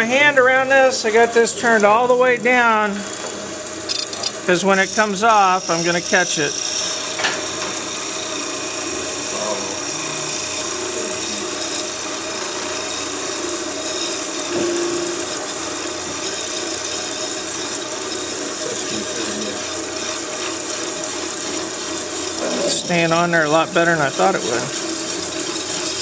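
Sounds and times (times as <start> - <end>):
wood lathe running: 0.0 - 26.0
cutting tool scraping wood: 3.0 - 8.0, 9.0 - 26.0.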